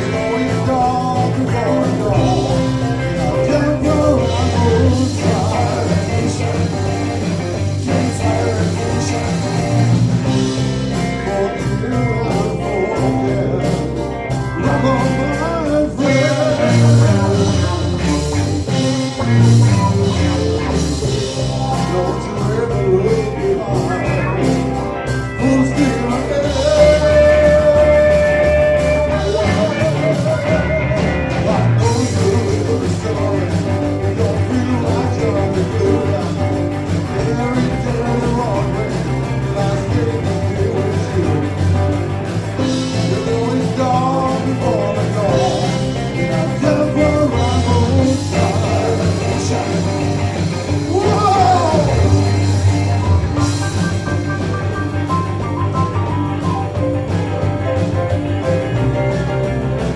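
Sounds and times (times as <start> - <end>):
man singing: 0.0 - 56.8
live blues-rock band: 0.0 - 59.9.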